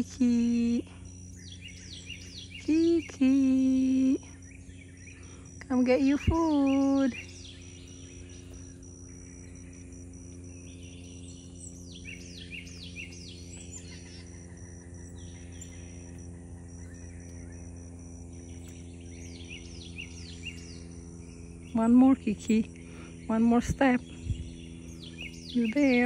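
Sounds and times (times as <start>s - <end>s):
low steady hum: 0.0s - 26.0s
pulsing high insect note: 0.0s - 26.0s
songbirds chirping: 0.0s - 26.0s.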